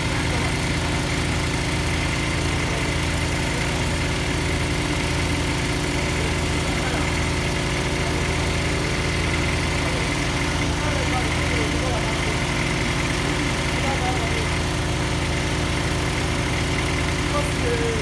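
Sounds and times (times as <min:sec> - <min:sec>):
drilling rig engine running: 0:00.0 - 0:18.0.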